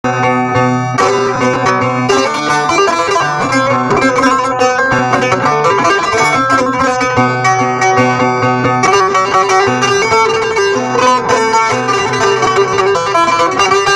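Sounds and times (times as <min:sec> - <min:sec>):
long-necked lute improvisation: 0:00.0 - 0:13.9.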